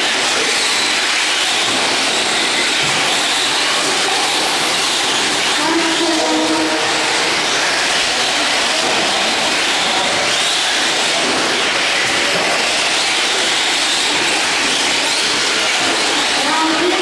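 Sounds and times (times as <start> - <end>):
rc trucks racing: 0.0 - 17.0.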